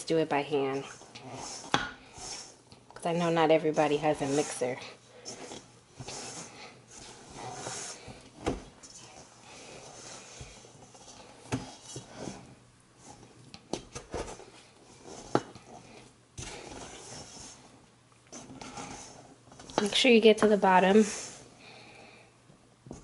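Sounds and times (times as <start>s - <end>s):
spoon stirring dough: 0.6s - 21.5s.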